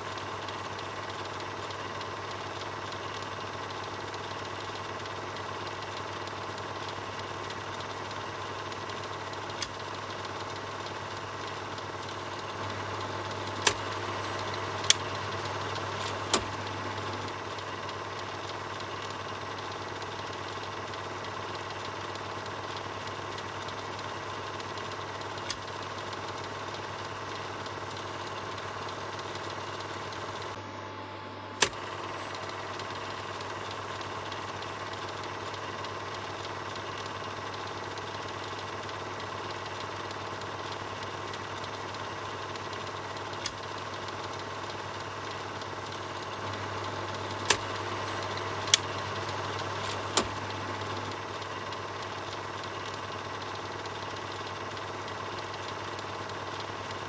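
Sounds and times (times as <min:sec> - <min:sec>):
film projector whirring: 0:00.0 - 0:57.0
projector clicks: 0:00.1 - 0:30.6, 0:31.6 - 0:57.0.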